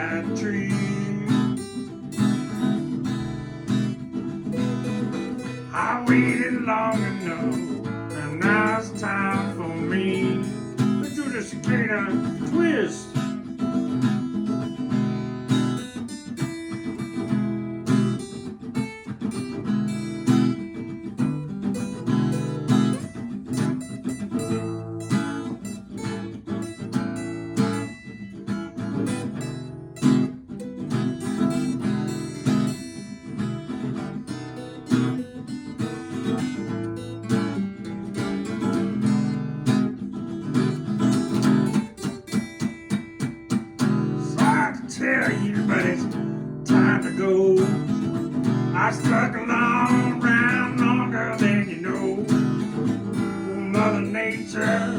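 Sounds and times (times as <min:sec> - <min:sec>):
acoustic guitar blues strumming: 0:00.0 - 0:54.9.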